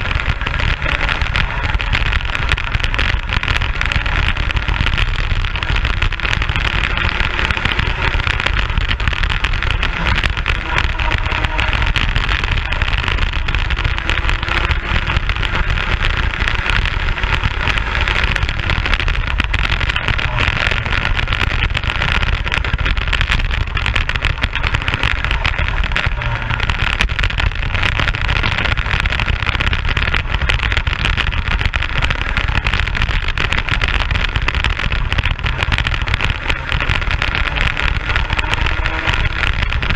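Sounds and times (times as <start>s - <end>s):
kart engine running: 0.0s - 39.9s
wind noise on microphone: 0.0s - 39.9s.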